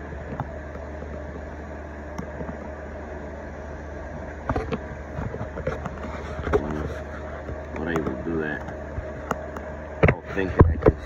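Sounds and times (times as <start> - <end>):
spindle motor humming: 0.0 - 11.0.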